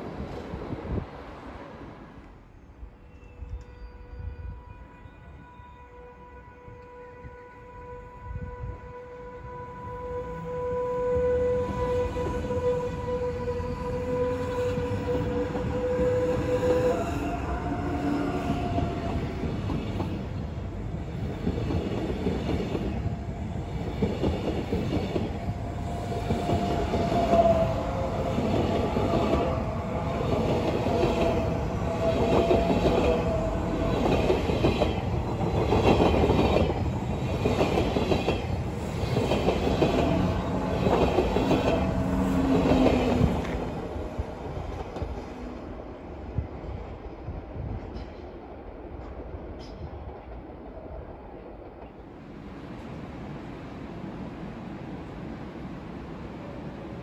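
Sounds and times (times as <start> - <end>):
train wheel rumble: 6.6 - 57.0.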